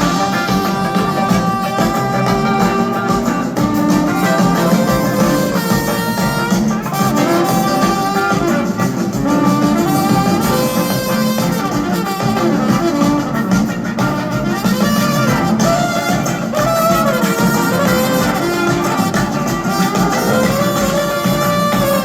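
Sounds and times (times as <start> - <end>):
drums: 0.0 - 22.0
electric guitar: 0.0 - 22.0
horn section playing: 0.0 - 22.0.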